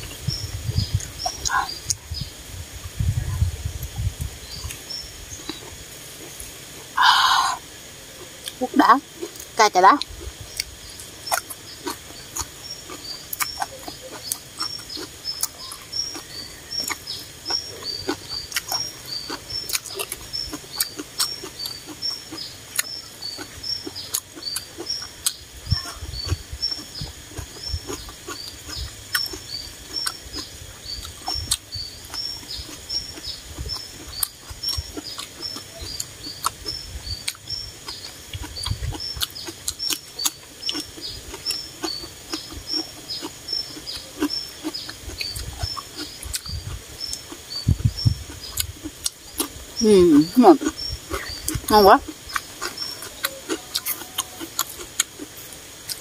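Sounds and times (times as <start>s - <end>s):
chewing crunchy salad: 3.8s - 7.1s, 8.2s - 56.0s.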